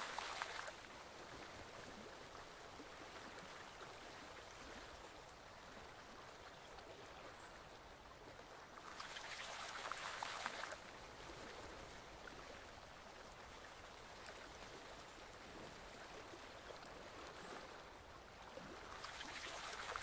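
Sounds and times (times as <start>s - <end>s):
forest stream babbling: 0.0s - 20.0s.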